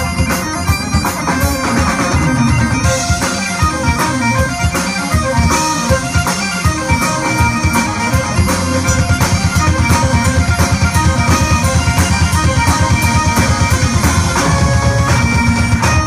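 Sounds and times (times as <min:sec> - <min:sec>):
up-tempo folk-rock music: 0:00.0 - 0:16.0.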